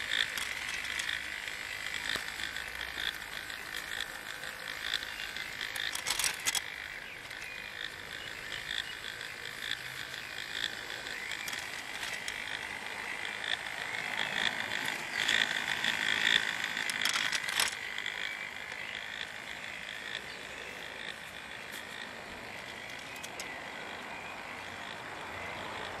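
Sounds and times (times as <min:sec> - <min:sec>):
plastic gears clicking and rattling: 0:00.0 - 0:26.0.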